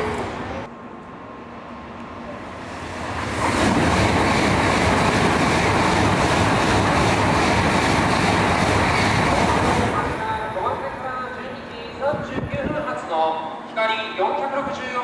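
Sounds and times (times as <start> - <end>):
high-speed train rushing past: 0.0 - 15.0.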